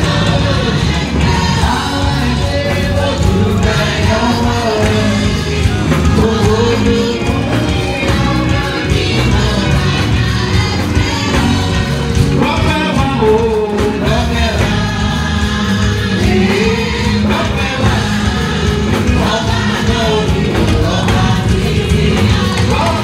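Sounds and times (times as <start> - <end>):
choir singing gospel song: 0.0 - 23.0
hand drums beat: 0.0 - 23.0.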